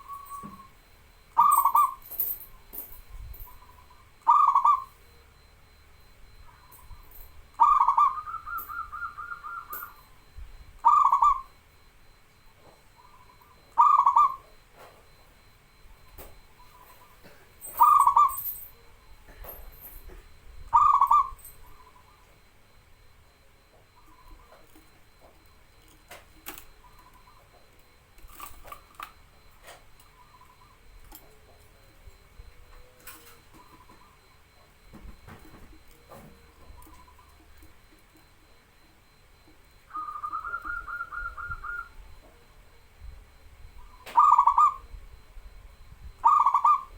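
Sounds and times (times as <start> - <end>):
dove cooing: 0.0 - 46.9
quiet cage sounds: 0.0 - 46.9.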